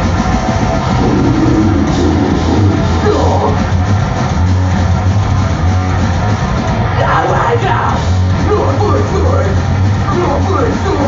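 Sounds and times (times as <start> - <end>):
heavy metal music: 0.0 - 11.0.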